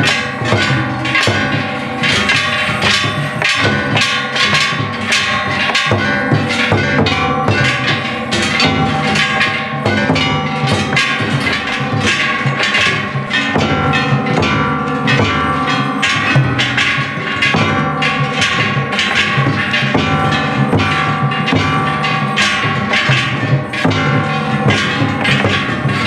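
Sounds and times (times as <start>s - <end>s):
brass gongs struck: 0.0s - 26.0s
taiko drum pounding: 0.0s - 26.0s.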